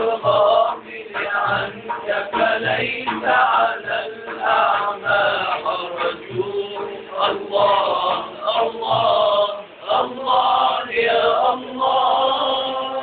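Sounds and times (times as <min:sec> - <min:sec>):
frame drum beating: 0:00.0 - 0:11.7
men singing together: 0:00.0 - 0:13.0.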